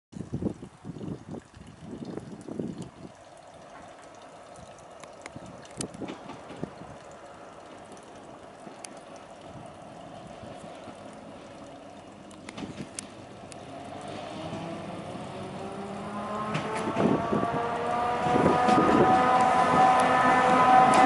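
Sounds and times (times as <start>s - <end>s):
diesel locomotive engine hum: 2.7s - 21.0s.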